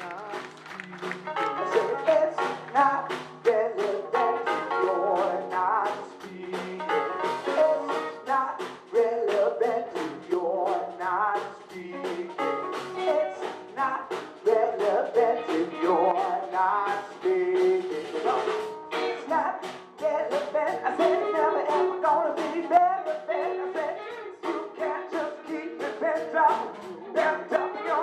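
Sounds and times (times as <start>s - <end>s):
soul band playing: 0.0s - 28.0s
steady drum beat: 0.0s - 28.0s.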